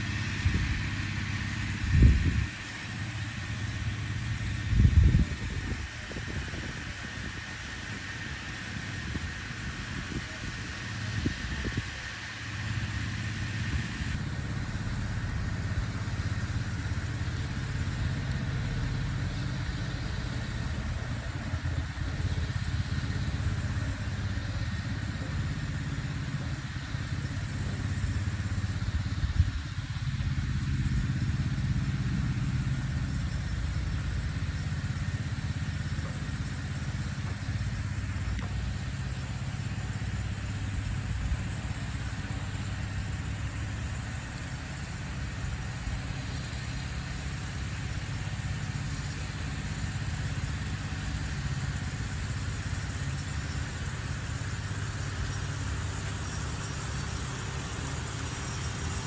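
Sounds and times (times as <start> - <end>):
hiss of spraying water: 0.0 - 59.0
water pump engine running: 0.0 - 59.0.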